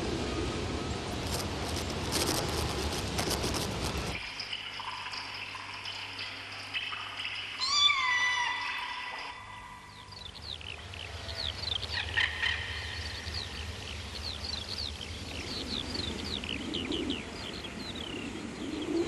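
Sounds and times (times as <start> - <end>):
low steady hum: 0.0 - 19.0
birds chirping: 1.3 - 19.0.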